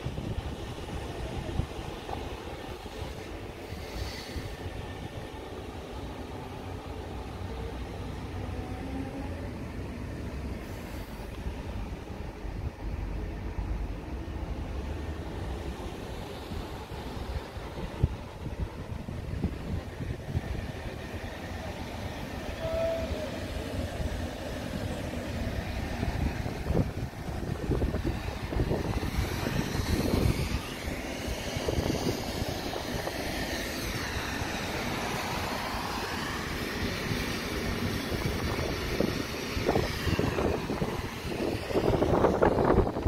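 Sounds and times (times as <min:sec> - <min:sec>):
distant drone: 0:00.0 - 0:43.0
wind rumbling on microphone: 0:00.0 - 0:43.0.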